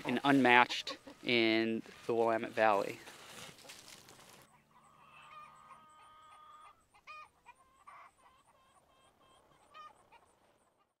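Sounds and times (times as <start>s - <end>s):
faint chickens clucking: 0.0s - 11.0s.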